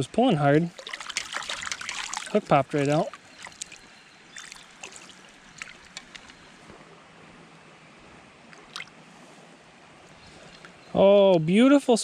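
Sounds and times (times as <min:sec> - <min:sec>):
creek water running: 0:00.0 - 0:07.6, 0:08.2 - 0:11.1.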